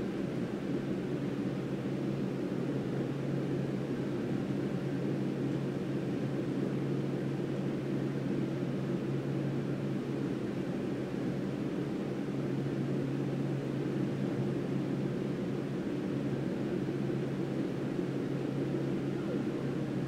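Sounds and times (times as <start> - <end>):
constant hum: 0.0 - 20.0.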